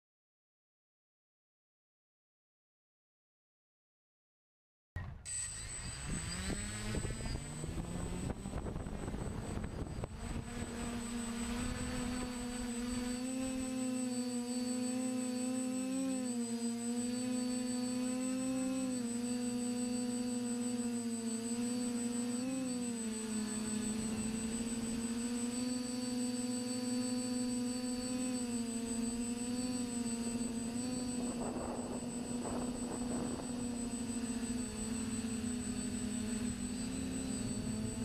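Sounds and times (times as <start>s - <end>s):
quadcopter motors humming: 5.0s - 38.0s
thin high whine: 5.0s - 38.0s.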